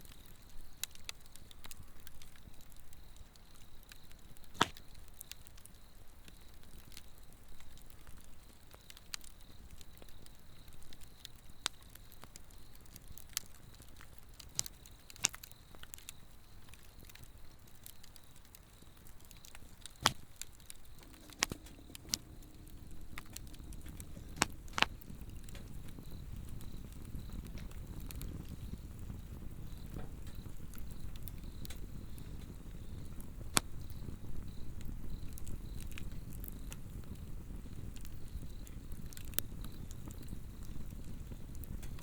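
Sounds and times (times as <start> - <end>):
log fire crackling and popping: 0.0 - 42.0
insect trill: 2.3 - 42.0.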